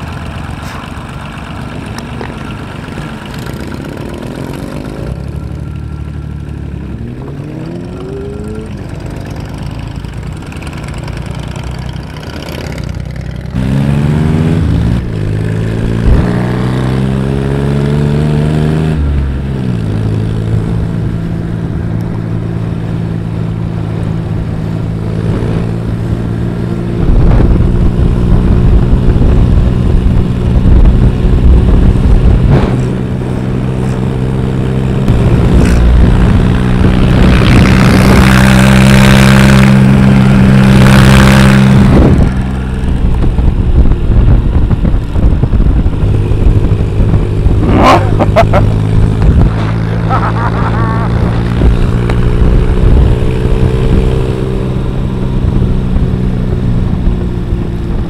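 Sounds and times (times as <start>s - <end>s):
motorcycle engine running: 0.0s - 58.0s
wind and road rush: 0.0s - 58.0s.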